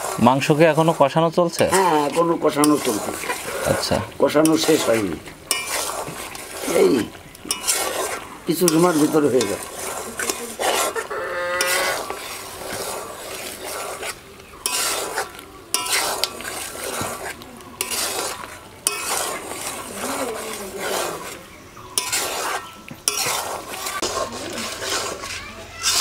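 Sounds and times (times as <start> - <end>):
light sizzle: 0.0 - 26.0
metal spatula scraping a pan: 0.0 - 26.0.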